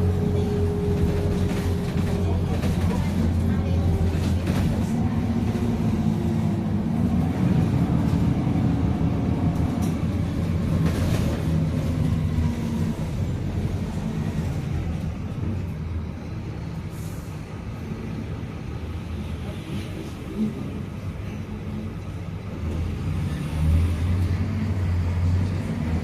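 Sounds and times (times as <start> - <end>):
bus diesel engine droning: 0.0 - 26.0.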